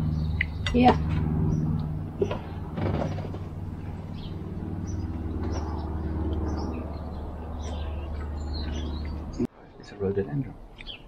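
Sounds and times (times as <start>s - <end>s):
steady low hum: 0.0s - 10.8s
small birds chirping: 0.0s - 11.0s.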